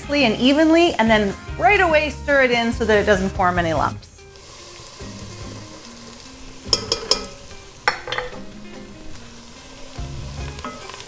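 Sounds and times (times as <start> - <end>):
butter and onions sizzling: 0.0 - 11.0.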